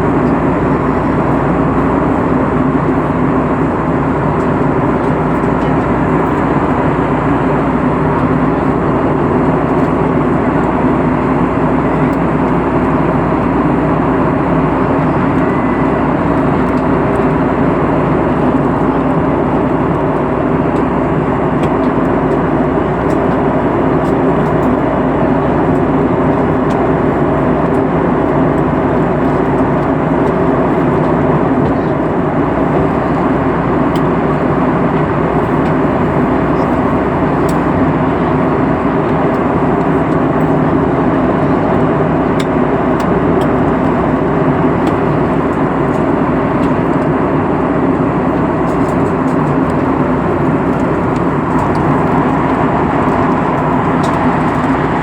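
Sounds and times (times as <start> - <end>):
airplane engine drone: 0.0 - 55.0.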